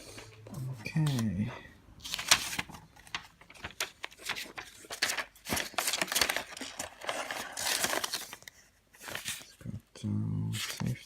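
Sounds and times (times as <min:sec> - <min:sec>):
paper crinkling and rustling: 0:00.0 - 0:09.7, 0:10.5 - 0:11.0.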